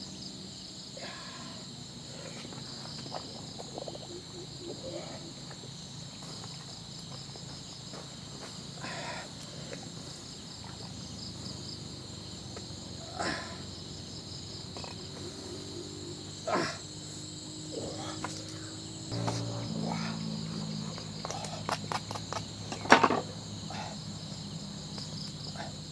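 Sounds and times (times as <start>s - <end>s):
insects chirring: 0.0s - 25.9s.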